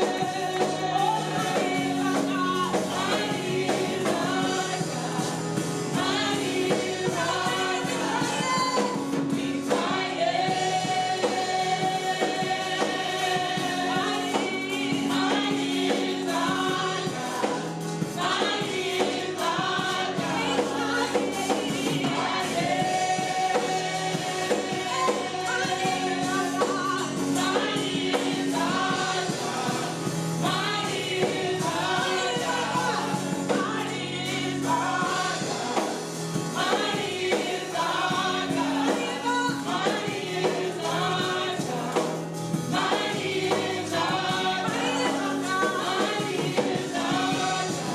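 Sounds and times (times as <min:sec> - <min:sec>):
gospel choir singing: 0:00.0 - 0:47.9
instrumental accompaniment with bass: 0:00.0 - 0:47.9.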